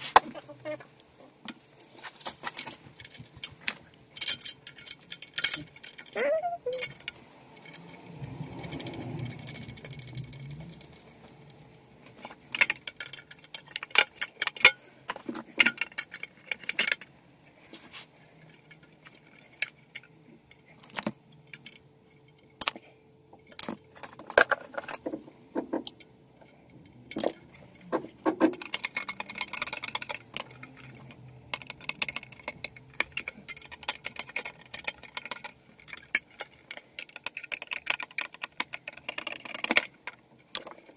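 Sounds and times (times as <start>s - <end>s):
clicks and metallic rattles: 0.0s - 40.9s.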